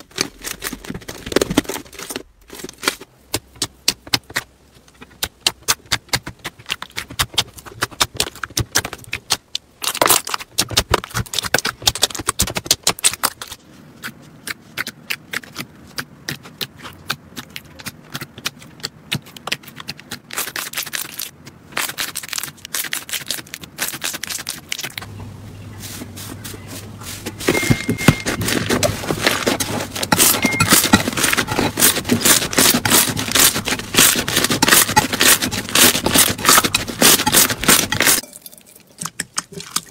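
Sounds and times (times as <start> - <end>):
slime clicking and crackling: 0.0 - 25.1, 28.4 - 39.9.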